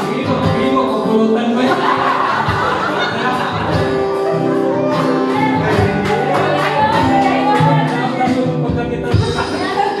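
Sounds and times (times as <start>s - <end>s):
acoustic guitar strumming: 0.0s - 10.0s
person singing: 0.0s - 10.0s.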